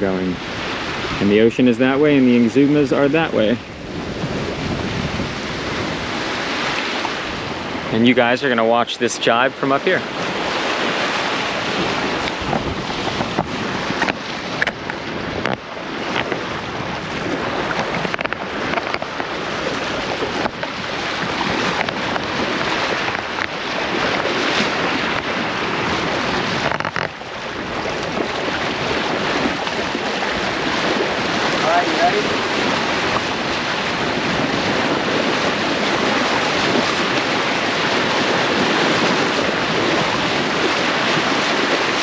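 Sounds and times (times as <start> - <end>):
water rushing along hull: 0.0 - 42.0
wind buffeting microphone: 0.0 - 42.0.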